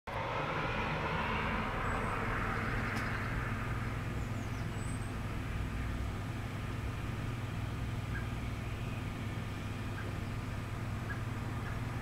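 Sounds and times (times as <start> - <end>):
engine rumble: 0.1 - 12.0.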